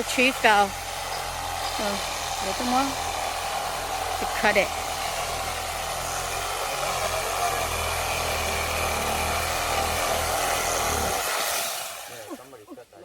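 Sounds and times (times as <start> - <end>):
chainsaw cutting wood: 0.0 - 12.7.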